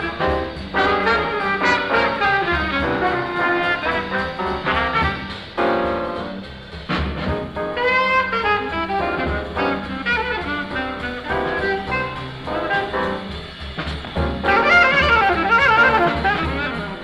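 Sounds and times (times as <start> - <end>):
bass and drums rhythm: 0.0 - 17.0
horns playing fast jazz lines: 0.0 - 17.0.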